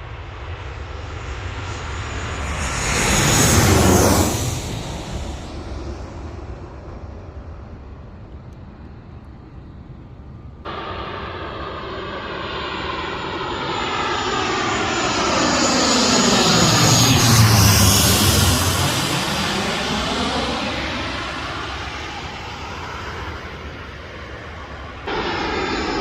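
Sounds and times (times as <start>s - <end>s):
airliner engine noise: 0.0s - 26.0s.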